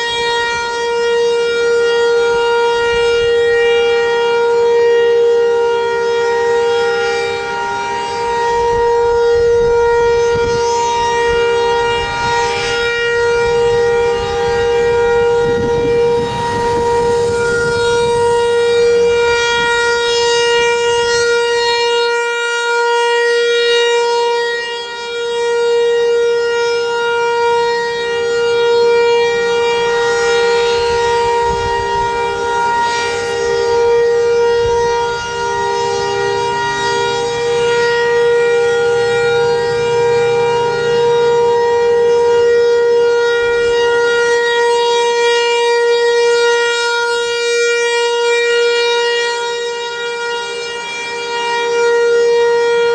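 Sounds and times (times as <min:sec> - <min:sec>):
rotating warning siren steady tone: 0:00.0 - 0:52.9.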